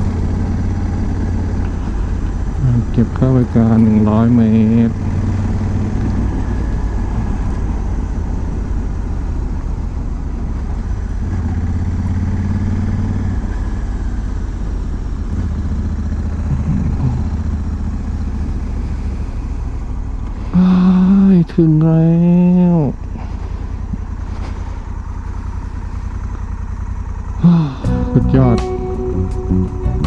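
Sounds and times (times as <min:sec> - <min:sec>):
motorcycle engine cruising: 0:00.0 - 0:21.3, 0:22.7 - 0:30.0.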